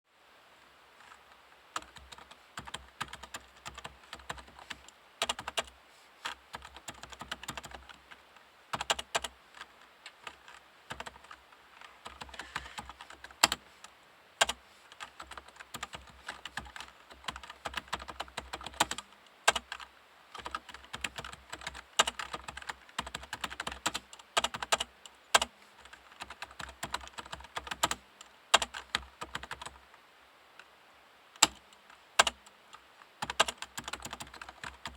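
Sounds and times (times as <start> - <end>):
keyboard typing: 1.8 - 13.7, 14.4 - 19.8, 20.4 - 29.8, 31.4 - 34.9.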